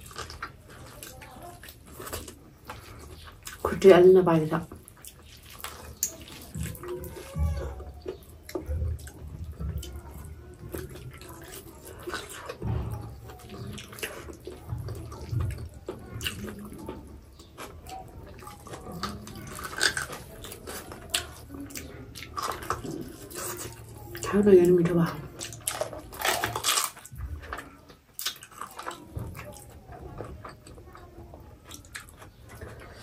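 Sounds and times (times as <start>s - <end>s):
lip smacks and chewing: 0.0s - 3.9s, 4.6s - 24.3s, 25.2s - 33.0s.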